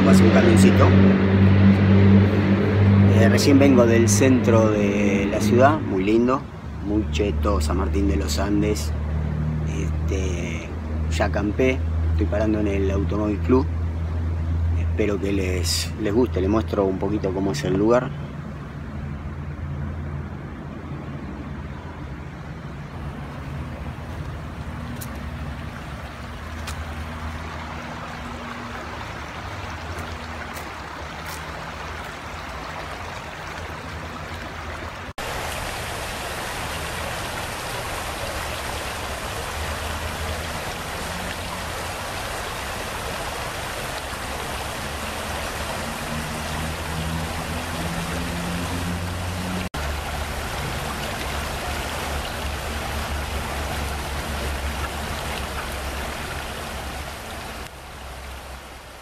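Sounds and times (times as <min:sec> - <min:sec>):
stream babbling over rocks: 0:00.0 - 0:18.8, 0:21.6 - 0:59.0.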